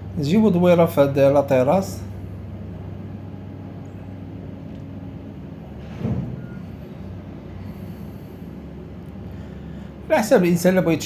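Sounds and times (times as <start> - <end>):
outdoor ambient hum and rumble: 0.0 - 11.0.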